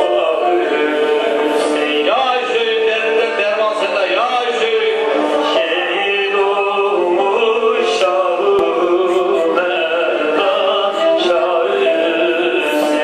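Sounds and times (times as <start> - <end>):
instrumental accompaniment: 0.0 - 13.0
person singing: 0.0 - 13.0.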